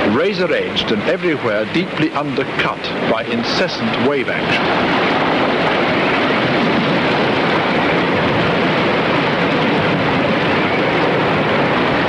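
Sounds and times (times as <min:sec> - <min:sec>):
ocean surf breaking over rocks: 0:00.0 - 0:12.0.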